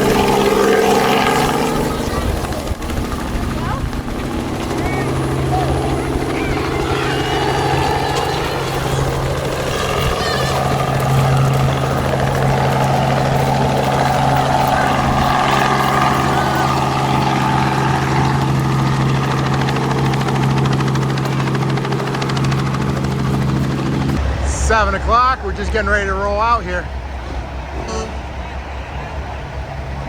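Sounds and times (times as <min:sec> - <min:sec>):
helicopter flying: 0:00.0 - 0:30.0.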